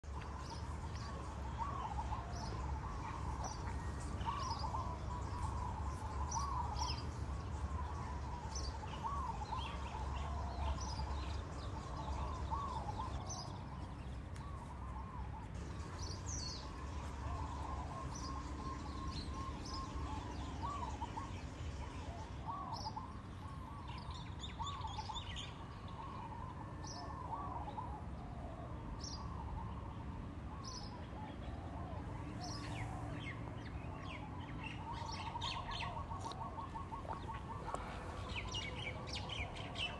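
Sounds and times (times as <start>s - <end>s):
songbirds chirping: 0.0s - 39.9s
steady low hum: 0.0s - 39.9s.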